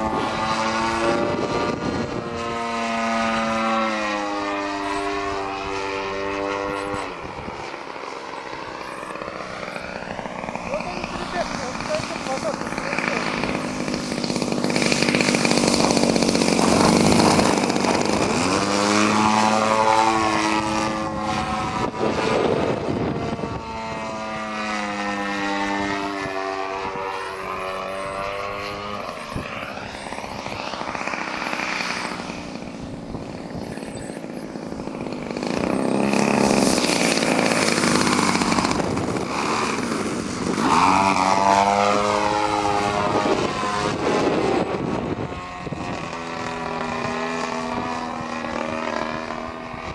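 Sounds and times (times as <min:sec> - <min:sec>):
small engine revving: 0:00.0 - 0:49.9.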